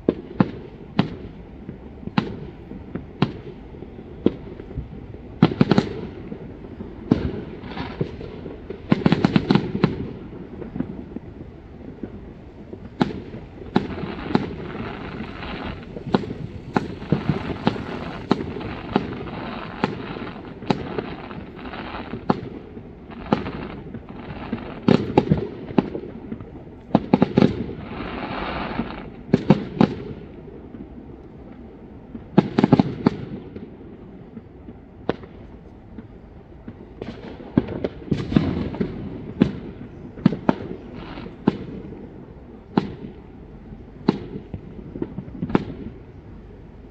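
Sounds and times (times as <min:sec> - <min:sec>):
fireworks bangs: 0:00.0 - 0:46.6
distant fireworks crackle and rumble: 0:00.0 - 0:46.9.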